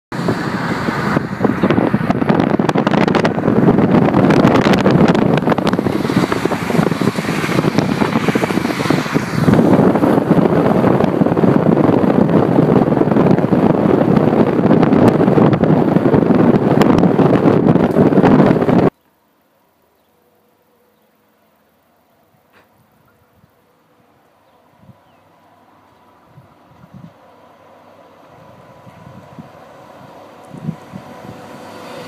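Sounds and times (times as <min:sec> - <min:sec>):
wind buffeting microphone: 0:00.1 - 0:19.0, 0:24.4 - 0:32.0
car road noise: 0:00.1 - 0:32.0.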